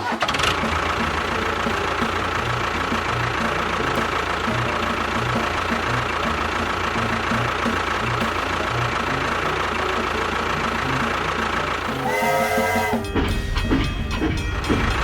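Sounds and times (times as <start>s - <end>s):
engine idling with knocking pulse: 0.0s - 15.0s
thin steady whine: 0.6s - 13.2s.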